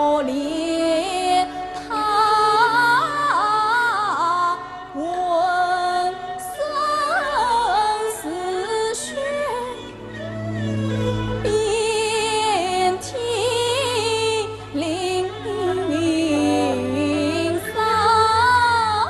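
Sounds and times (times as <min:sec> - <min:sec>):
opera music with sliding notes: 0:00.0 - 0:19.0.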